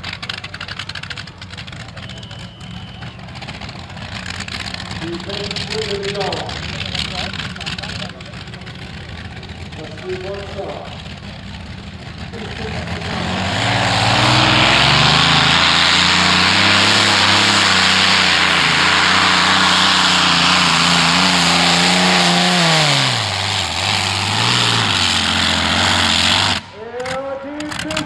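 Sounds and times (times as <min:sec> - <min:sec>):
tractor engine at full throttle: 0:00.0 - 0:28.0.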